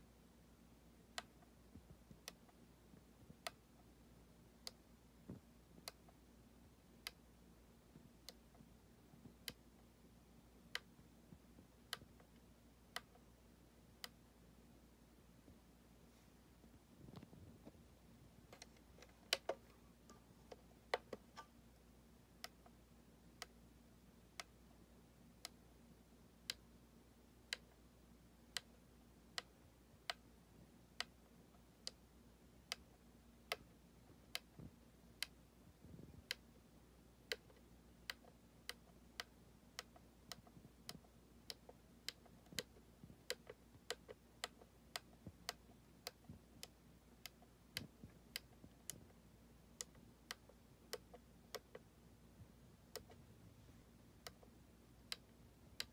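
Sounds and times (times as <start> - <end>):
faint steady hum: 0.0 - 55.9
knob detent clicks: 1.0 - 7.4, 8.0 - 10.0, 10.6 - 14.3, 18.4 - 22.8, 24.3 - 24.7, 26.4 - 26.8, 27.4 - 53.3, 54.0 - 55.9.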